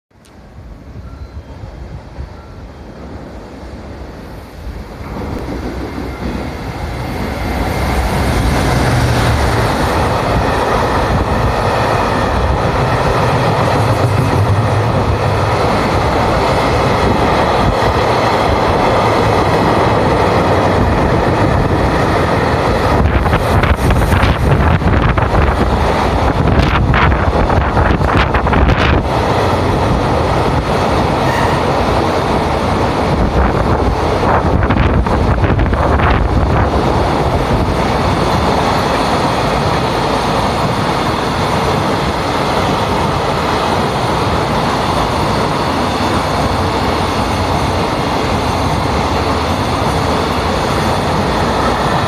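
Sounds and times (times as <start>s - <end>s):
train wheels on rails: 0.1s - 52.0s.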